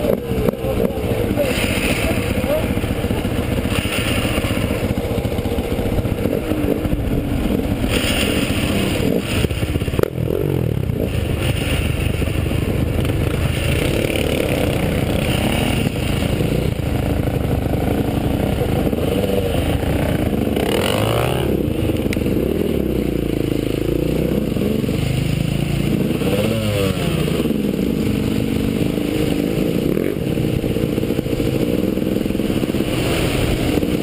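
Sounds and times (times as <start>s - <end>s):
engine throttle blips: 0.0s - 34.0s
motorcycle engines idling: 0.0s - 34.0s.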